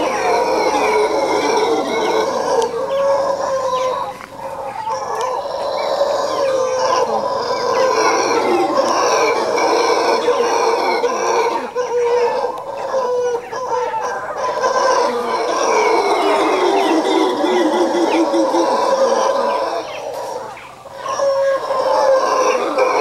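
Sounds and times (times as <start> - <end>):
howler monkeys howling: 0.0 - 23.0.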